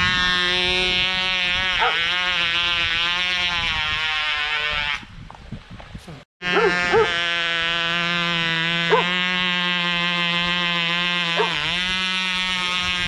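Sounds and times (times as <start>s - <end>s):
model helicopter engine buzzing: 0.0s - 4.8s, 6.4s - 13.0s.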